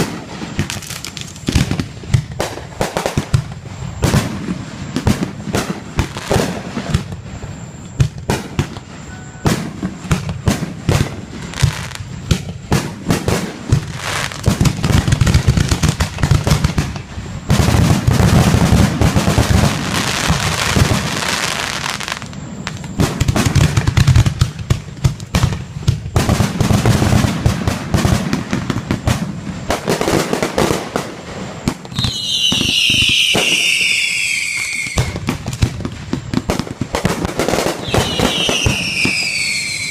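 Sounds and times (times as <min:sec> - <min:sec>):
falling firework whistle: 0:00.0 - 0:24.4, 0:29.1 - 0:39.9
firework bangs and pops: 0:00.0 - 0:39.9
firework crackling: 0:00.0 - 0:39.9.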